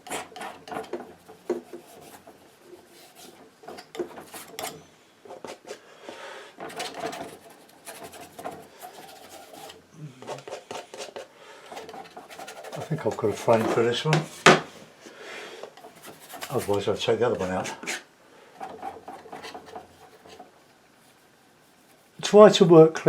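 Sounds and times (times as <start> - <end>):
palette knife scraping paint: 0.0 - 5.9, 6.6 - 14.4, 15.8 - 22.3.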